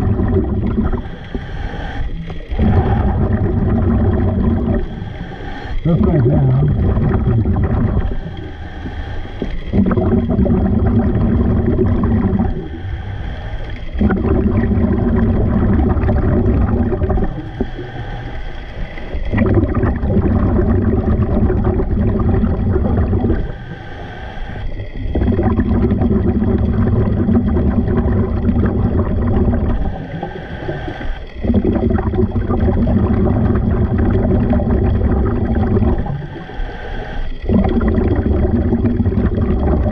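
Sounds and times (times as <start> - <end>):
diver breathing through regulator: 0.0 - 19.4, 20.3 - 27.2, 27.9 - 34.0, 35.0 - 39.9.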